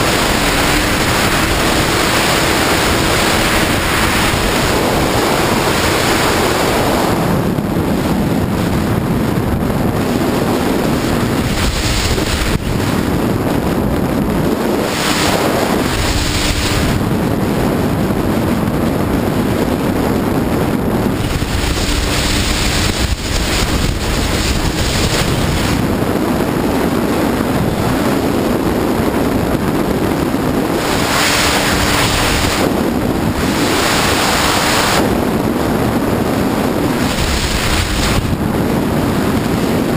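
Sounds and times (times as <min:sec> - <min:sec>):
water rushing along hull: 0:00.0 - 0:39.9
watercraft engine drone: 0:00.0 - 0:39.9
wind buffeting microphone: 0:00.0 - 0:39.9.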